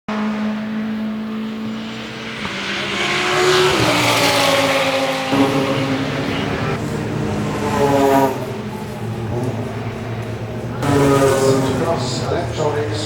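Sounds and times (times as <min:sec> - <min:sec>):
race car engine running: 0:00.1 - 0:13.0.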